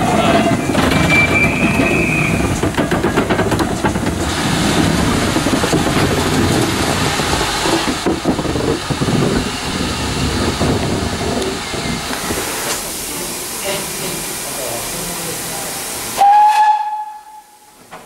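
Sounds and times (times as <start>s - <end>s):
wheels rumbling on rails: 0.0s - 17.1s
steam locomotive rolling past: 0.0s - 18.0s.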